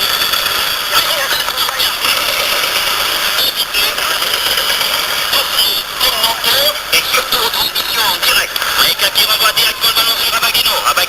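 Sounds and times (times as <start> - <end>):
radio static and hiss: 0.0 - 11.0.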